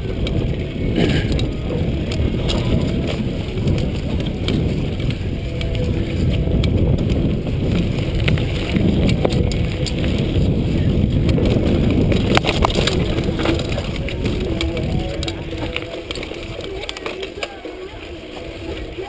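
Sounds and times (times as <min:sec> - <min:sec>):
bike clicks and rattles: 0:00.0 - 0:19.0
bike tyres on dirt: 0:00.0 - 0:19.0
wind buffeting microphone: 0:00.0 - 0:19.0.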